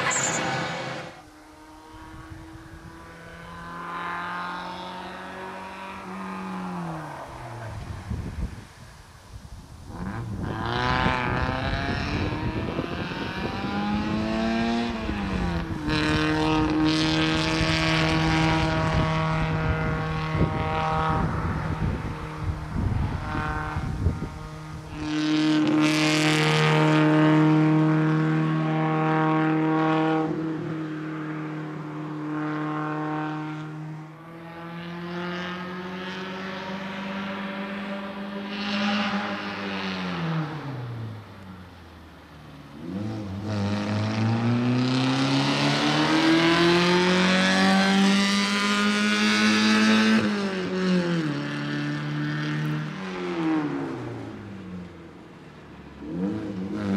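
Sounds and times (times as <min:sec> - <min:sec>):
race car engine revving: 0:00.0 - 0:08.1, 0:09.9 - 0:41.4, 0:42.7 - 0:54.9, 0:55.9 - 0:56.9.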